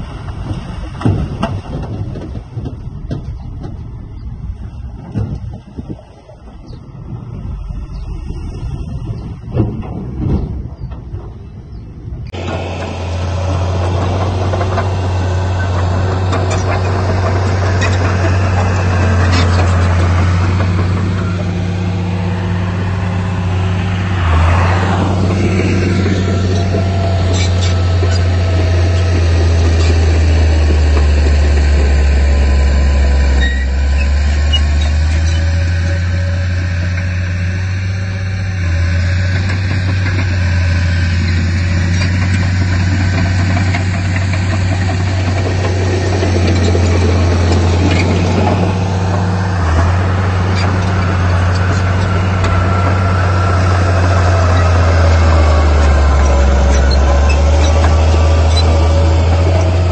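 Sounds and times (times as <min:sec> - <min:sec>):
heavy machine diesel engine: 0:00.0 - 0:59.9.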